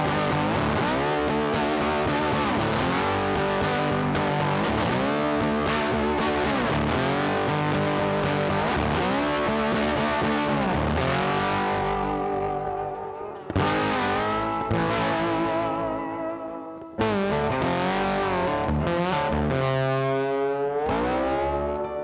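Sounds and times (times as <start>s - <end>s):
distorted electric guitar music: 0.0s - 22.0s.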